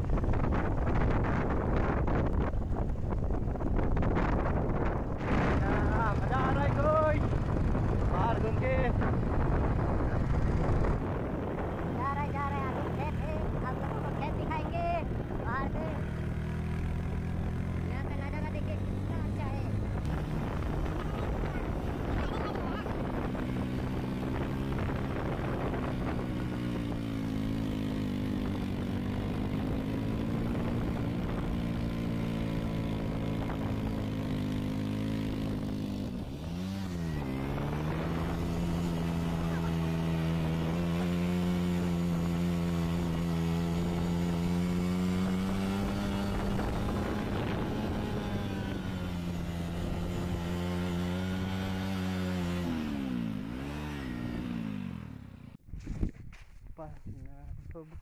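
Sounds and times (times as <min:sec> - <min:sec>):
motorcycle engine running: 0:00.0 - 0:56.7.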